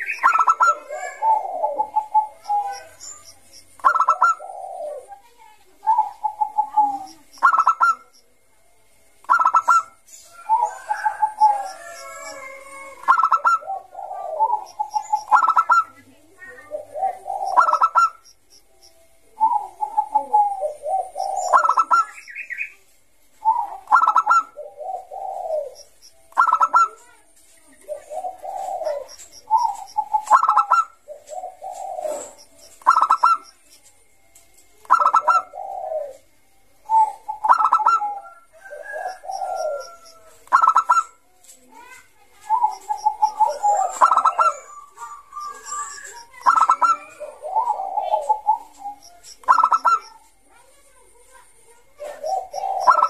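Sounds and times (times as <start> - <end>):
dove cooing song: 0.0 - 5.2, 5.8 - 8.3, 9.2 - 18.4, 19.2 - 34.0, 34.8 - 50.4, 51.9 - 53.0.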